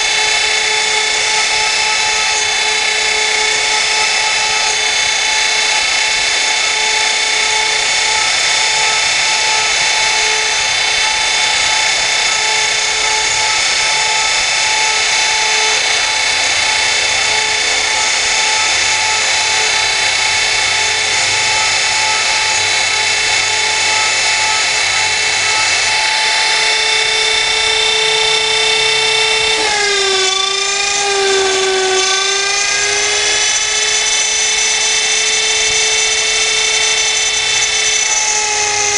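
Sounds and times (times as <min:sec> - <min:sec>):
router spindle high-pitched whine: 0:00.0 - 0:38.9.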